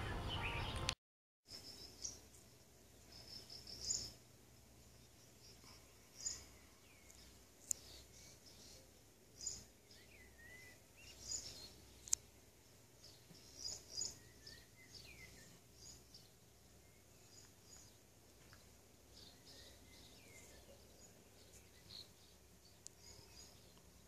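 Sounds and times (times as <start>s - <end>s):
small birds chirping: 0.0s - 24.0s
faint low hum: 1.6s - 24.0s.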